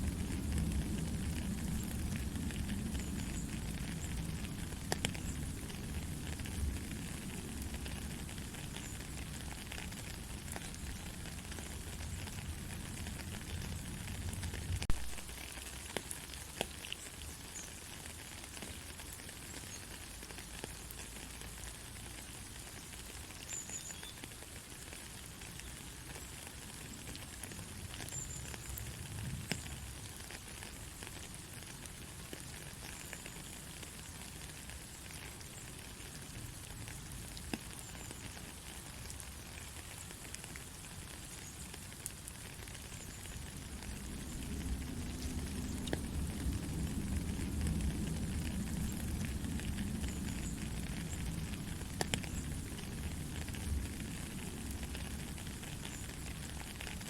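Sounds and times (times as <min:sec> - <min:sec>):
gentle rain falling: 0:00.0 - 0:57.0
raindrops ticking on surface: 0:00.0 - 0:57.0.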